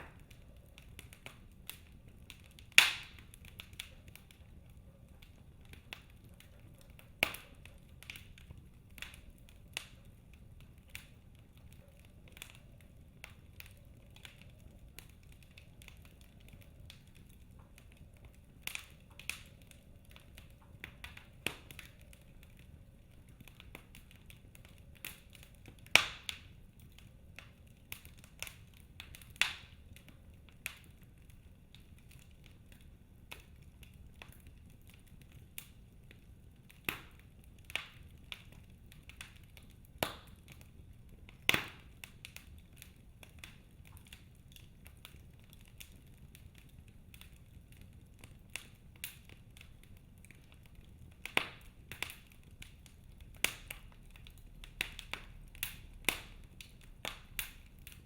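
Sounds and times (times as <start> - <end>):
logs crackling and popping: 0.0 - 58.0
low hiss of fire: 0.0 - 58.0.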